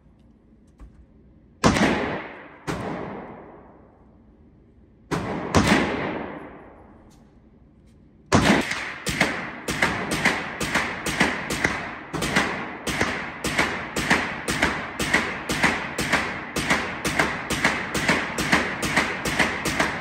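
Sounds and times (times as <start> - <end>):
gunshots echoing: 1.6 - 4.0, 5.1 - 7.0, 8.3 - 20.0.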